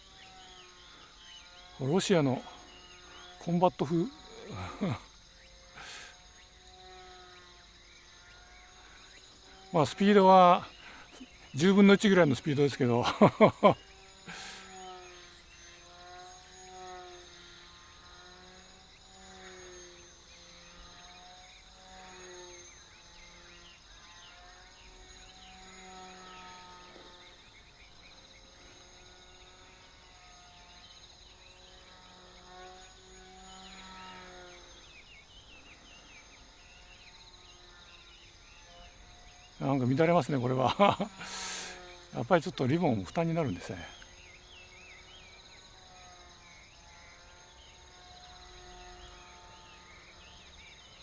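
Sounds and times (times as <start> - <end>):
crickets chirring: 0.0 - 51.0
small electric motor humming: 0.0 - 51.0.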